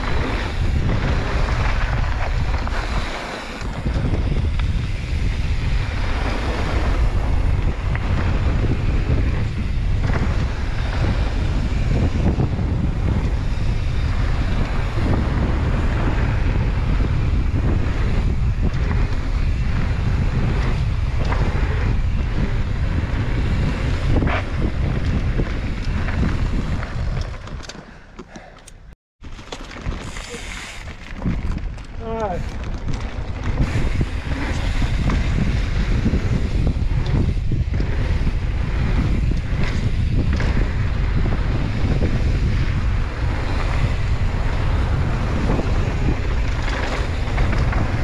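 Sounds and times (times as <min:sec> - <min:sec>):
wind buffeting microphone: 0:00.0 - 0:28.5, 0:29.8 - 0:48.0.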